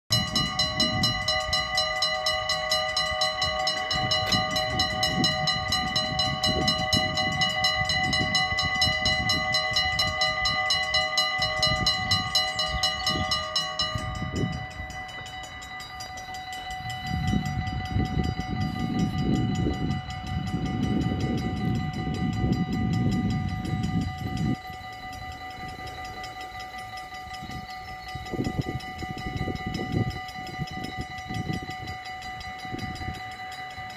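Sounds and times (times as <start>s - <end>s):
level crossing bells ringing: 0.1s - 33.9s.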